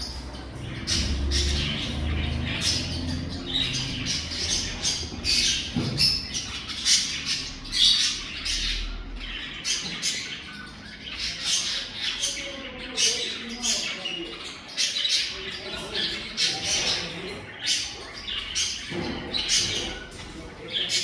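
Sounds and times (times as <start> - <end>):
birds harsh scratchy calls: 0.0 - 21.0.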